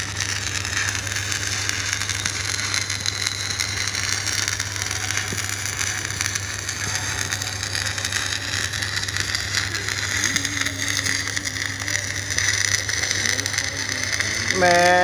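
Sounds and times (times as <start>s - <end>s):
welding arc crackling sizzle: 0.0s - 15.0s.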